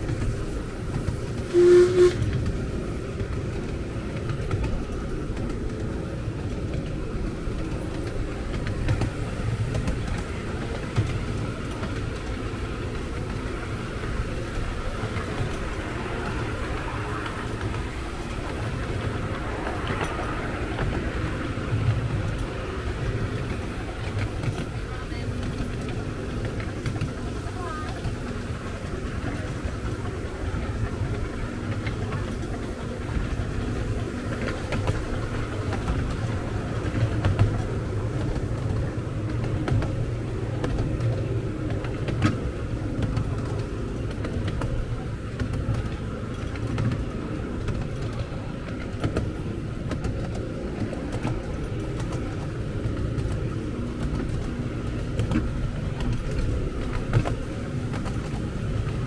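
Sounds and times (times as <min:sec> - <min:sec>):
miniature train rumbling on track: 0:00.0 - 0:59.0
sharp track clicks: 0:00.0 - 0:59.0.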